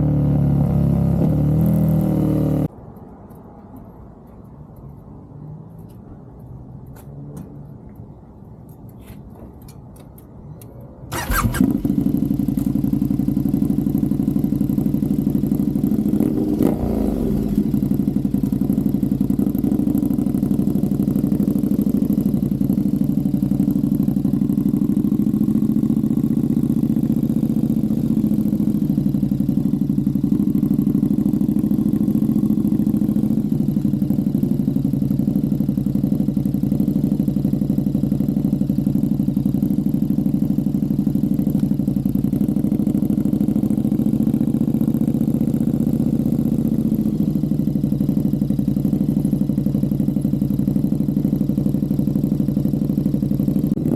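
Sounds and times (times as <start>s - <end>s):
motorcycle engine starting and idling: 0.0s - 2.7s, 9.4s - 53.9s.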